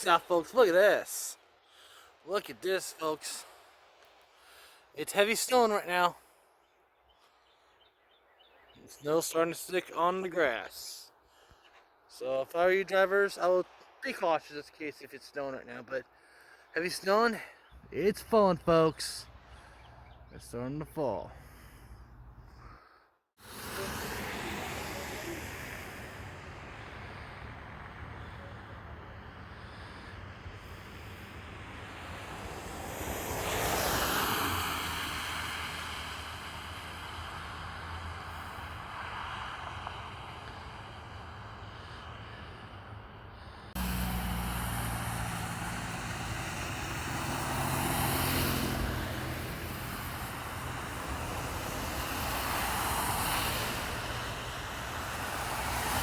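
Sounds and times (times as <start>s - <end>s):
vehicles passing: 0.0s - 56.0s
traffic background rush: 6.7s - 56.0s.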